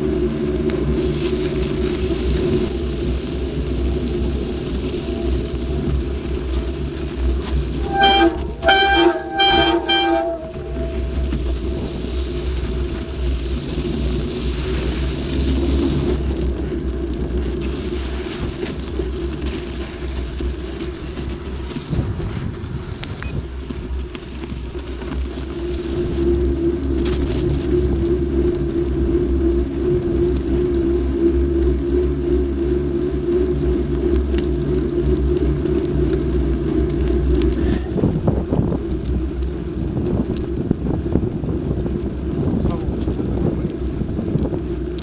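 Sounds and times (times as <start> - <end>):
bike tyre noise: 0.0 - 45.0
wind on microphone: 0.0 - 45.0.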